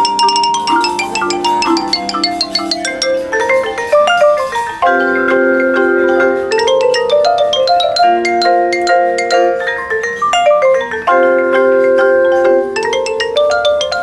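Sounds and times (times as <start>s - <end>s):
marimba: 0.0s - 14.0s
vibraphone: 0.0s - 14.0s.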